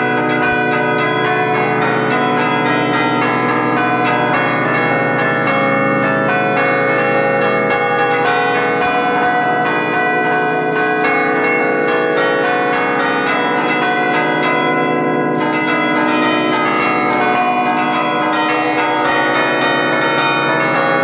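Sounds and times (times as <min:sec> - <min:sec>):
church bells pealing a melody: 0:00.0 - 0:21.0.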